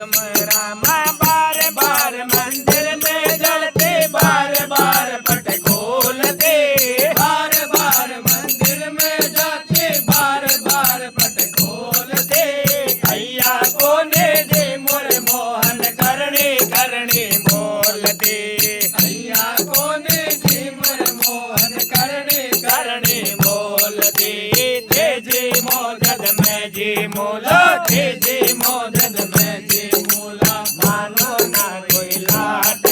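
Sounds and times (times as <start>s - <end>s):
fast rattling percussion beat: 0.0s - 32.9s
person singing a melodic chant: 0.0s - 32.9s.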